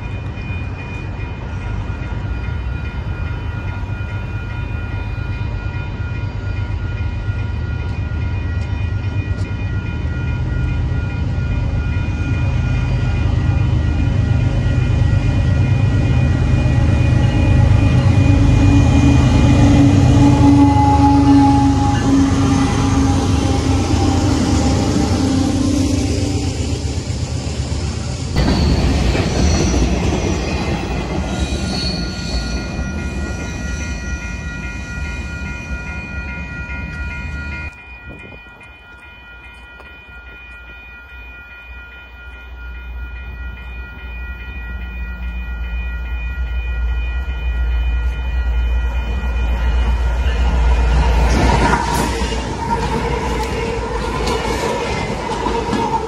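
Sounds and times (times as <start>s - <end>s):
train wheels clacking and squealing: 0.0s - 41.4s, 42.7s - 56.0s.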